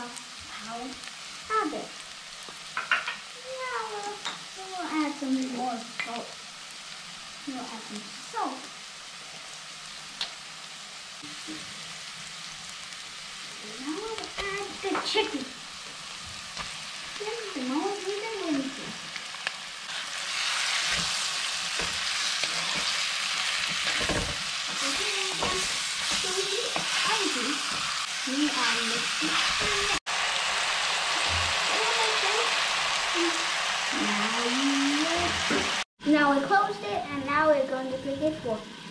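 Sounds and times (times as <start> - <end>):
onions sizzling in hot oil: 0.0 - 38.9.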